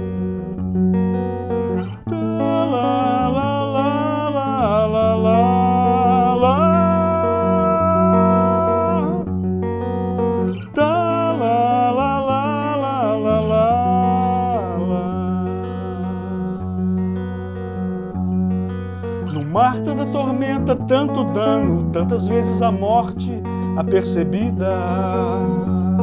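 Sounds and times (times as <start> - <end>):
guitar chords: 0.0 - 26.0
wordless singing: 1.9 - 9.3, 10.4 - 18.4, 19.2 - 26.0.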